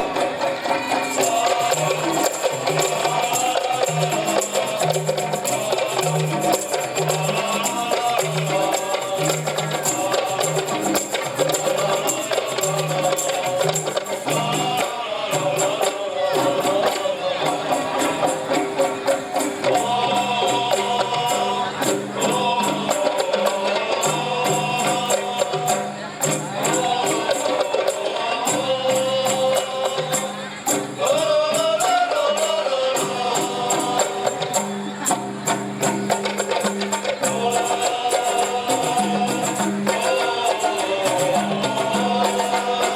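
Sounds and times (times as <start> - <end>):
frame drums: 0.0 - 42.9
jingling tambourine: 0.0 - 42.9.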